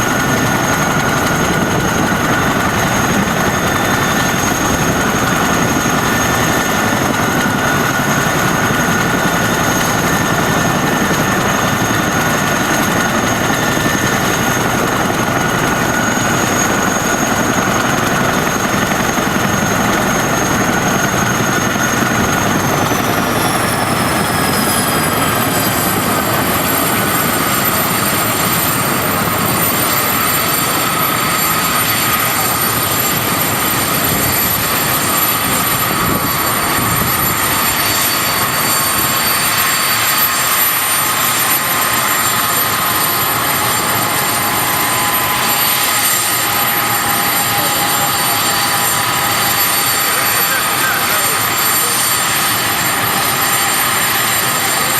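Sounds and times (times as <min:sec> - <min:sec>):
helicopter turbine whine: 0:00.0 - 0:54.9.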